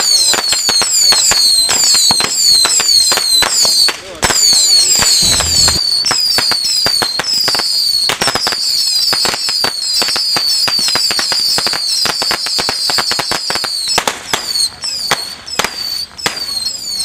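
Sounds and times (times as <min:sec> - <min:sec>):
falling whistles: 0:00.0 - 0:17.0
firecrackers banging: 0:00.0 - 0:17.0.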